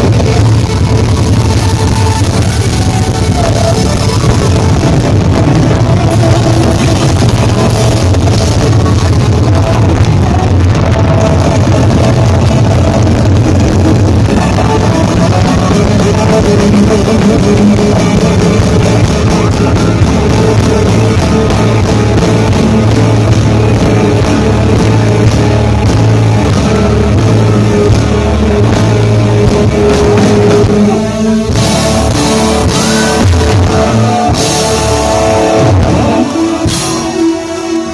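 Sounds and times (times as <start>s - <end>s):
drum kit: 0.0s - 37.9s
electric guitar: 0.0s - 37.9s
keyboards: 0.0s - 37.9s.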